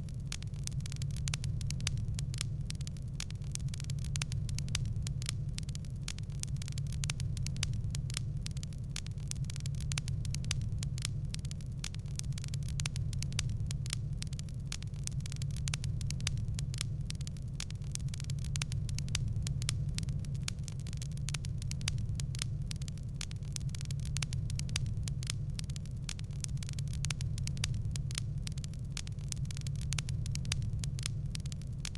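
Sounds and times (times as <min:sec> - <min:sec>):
steady low hum: 0:00.0 - 0:31.9
wood fire crackling: 0:00.0 - 0:31.9.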